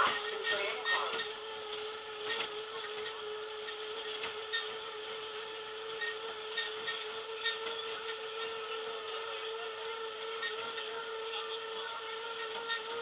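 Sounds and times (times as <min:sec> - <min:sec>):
tram car rolling with high whine: 0:00.0 - 0:13.0.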